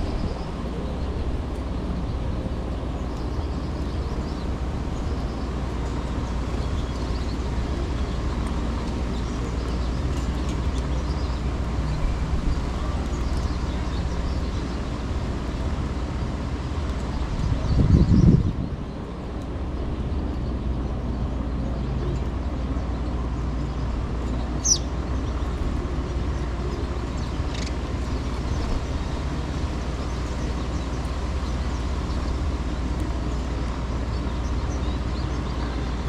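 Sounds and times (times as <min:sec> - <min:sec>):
distant city traffic rumble: 0:00.0 - 0:36.0
small birds chirping: 0:00.0 - 0:36.0
wind: 0:00.0 - 0:36.0.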